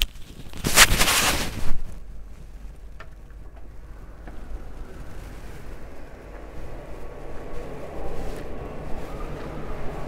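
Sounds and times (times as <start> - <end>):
steady low rumble: 1.4 - 10.0.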